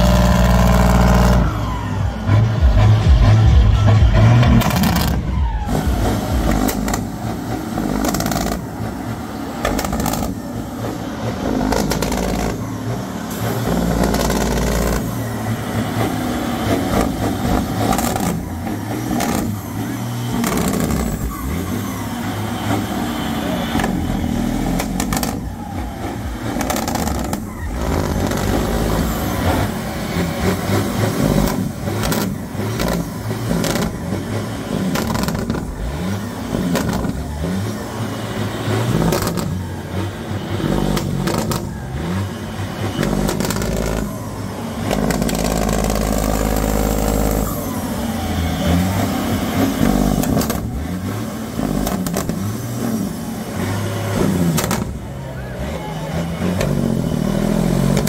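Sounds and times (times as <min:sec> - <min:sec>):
truck diesel engine revving: 0:00.0 - 0:58.0.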